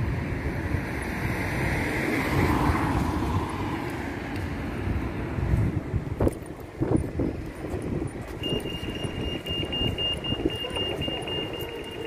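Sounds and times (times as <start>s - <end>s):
city street traffic: 0.0s - 12.0s
wind rumbling on microphone: 0.0s - 12.0s.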